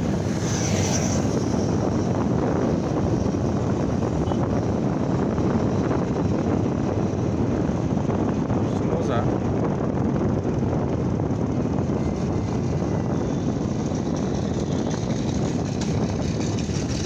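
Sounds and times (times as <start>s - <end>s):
motorcycle engine and road noise: 0.0s - 17.0s
wind buffeting microphone: 0.0s - 17.0s.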